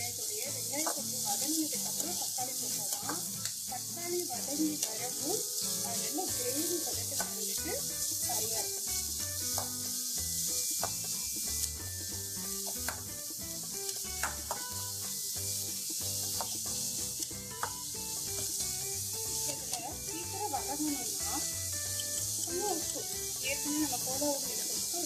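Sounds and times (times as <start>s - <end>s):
onions sizzling in oil: 0.0s - 25.0s
soft background music: 0.0s - 25.0s.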